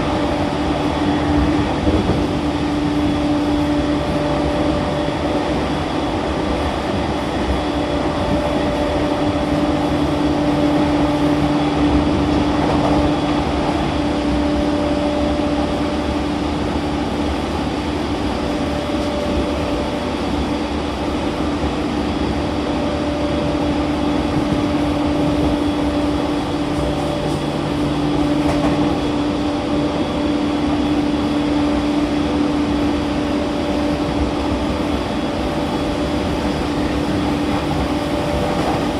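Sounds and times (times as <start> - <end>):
train motor hum: 0.0 - 38.9
train rolling noise: 0.0 - 38.9.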